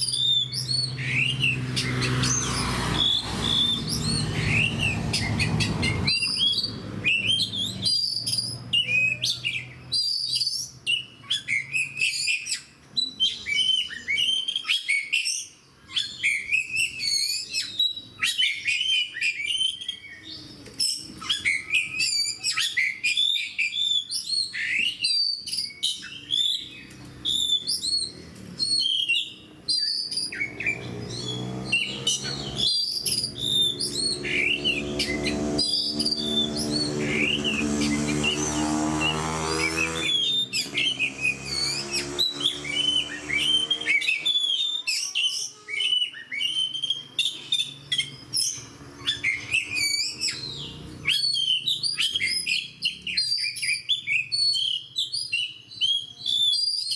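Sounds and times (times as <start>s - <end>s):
songbird whistling and chattering: 0.0s - 56.9s.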